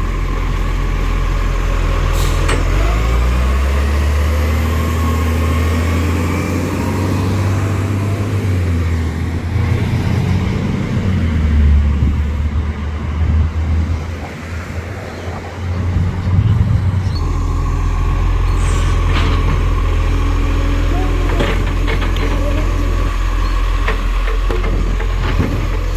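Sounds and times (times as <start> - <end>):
garbage truck diesel engine: 0.0 - 25.9.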